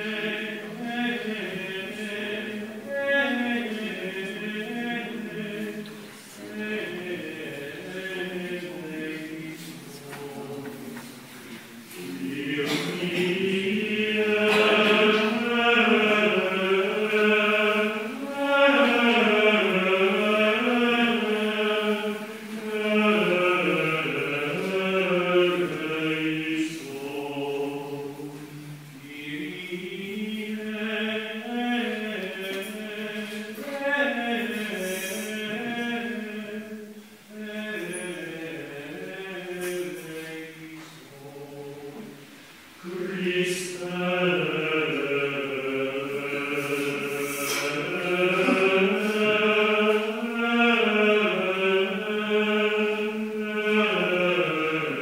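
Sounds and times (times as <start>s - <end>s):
unaccompanied plainchant singing: 0.0s - 55.0s.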